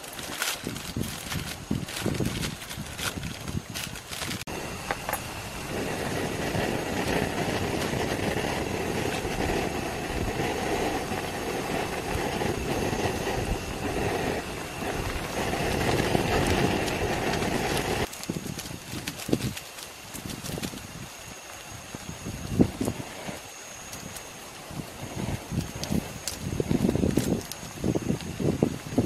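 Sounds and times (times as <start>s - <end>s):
gas burner hiss: 0.0s - 29.0s.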